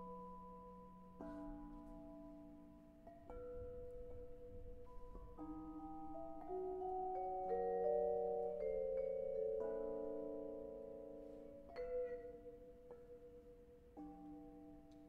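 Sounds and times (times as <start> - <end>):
vibraphone notes ringing: 0.0 - 15.0.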